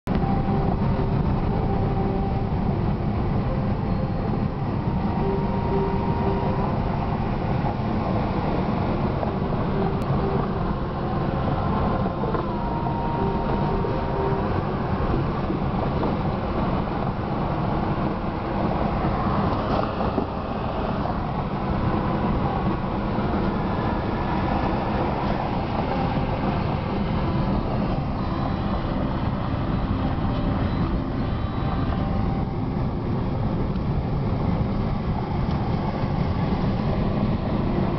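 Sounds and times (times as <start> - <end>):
car road and engine noise: 0.0 - 37.9.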